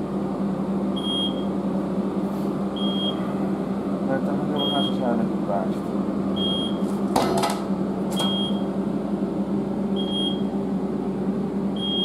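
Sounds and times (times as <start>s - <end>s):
lifting machinery hum: 0.0s - 12.0s.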